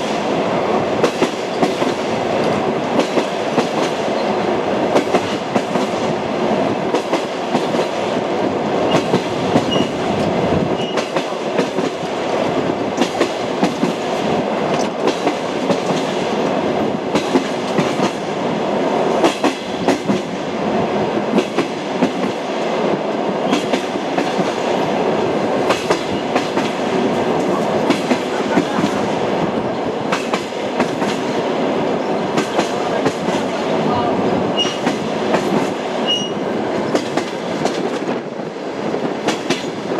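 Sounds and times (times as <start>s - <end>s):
train rumbling: 0.0s - 39.9s
train wheels clattering on track: 0.0s - 39.9s.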